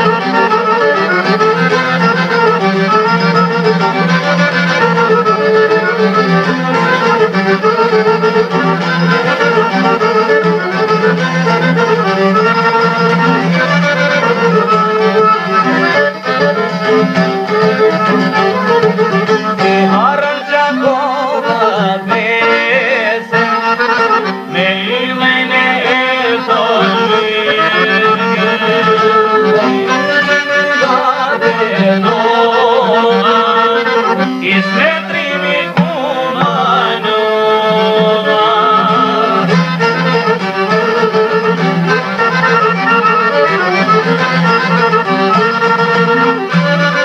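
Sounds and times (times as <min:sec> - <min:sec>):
instrumental folk melody: 0:00.0 - 0:47.0.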